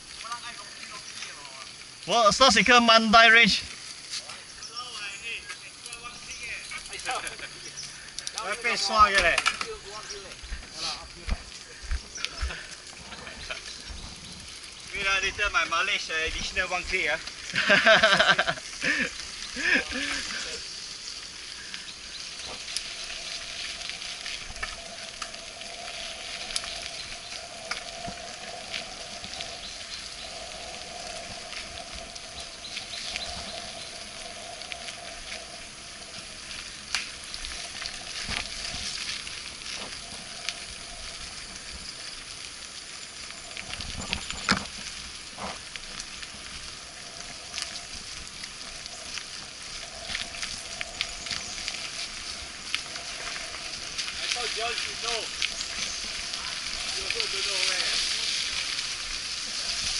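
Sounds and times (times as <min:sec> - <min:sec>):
bike tyres hissing on wet path: 0:00.0 - 0:59.9
bike clicks and rattles: 0:05.6 - 0:15.0, 0:15.7 - 0:59.9.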